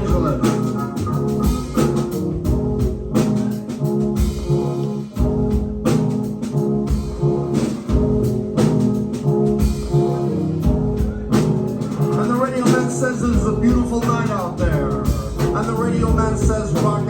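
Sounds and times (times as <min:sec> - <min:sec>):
bass: 0:00.0 - 0:17.0
drum kit beat: 0:00.0 - 0:17.0
keyboard sampler: 0:00.0 - 0:17.0.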